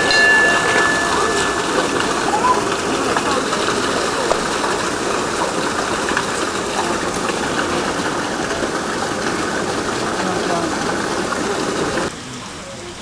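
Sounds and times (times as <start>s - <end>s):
water gushing: 0.0s - 13.0s.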